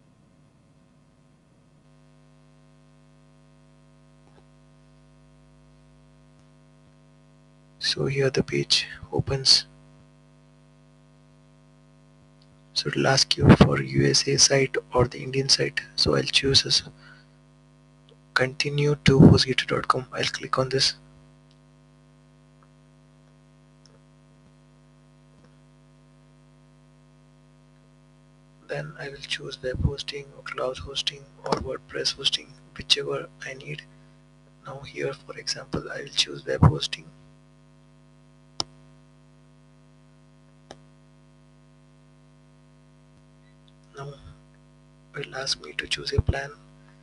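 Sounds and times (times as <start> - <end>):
buzzy mains hum: 0.0 - 47.0.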